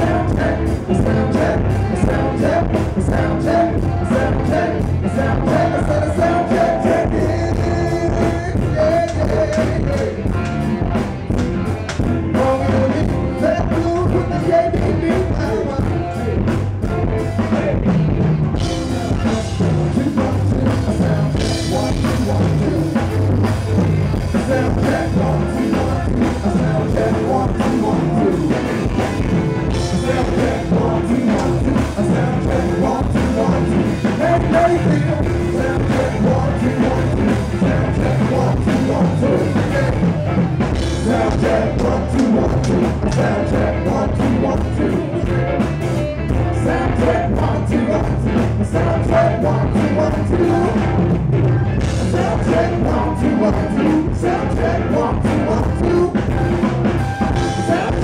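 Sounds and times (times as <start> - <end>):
live rock band playing: 0.0 - 58.0
person singing: 0.0 - 58.0.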